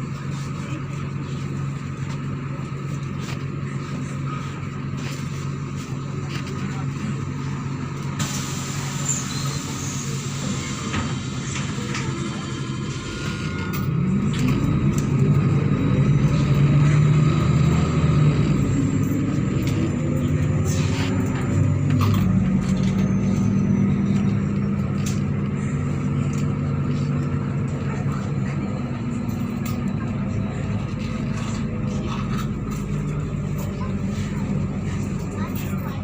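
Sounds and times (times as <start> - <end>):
bus engine accelerating: 0.0 - 36.0.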